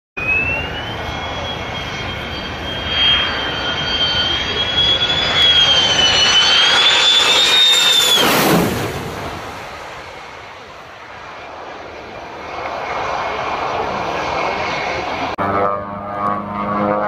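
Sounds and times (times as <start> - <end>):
jet engine whine: 0.2 - 17.0
jet rushing noise: 0.2 - 17.0.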